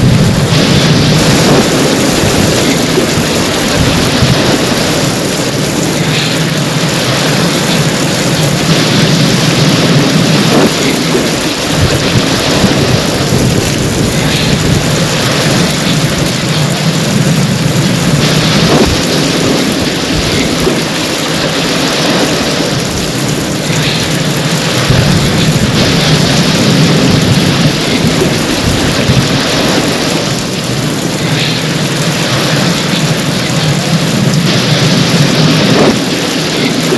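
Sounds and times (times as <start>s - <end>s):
heavy rain: 0.0s - 36.9s
thunder rumbling: 0.0s - 36.9s.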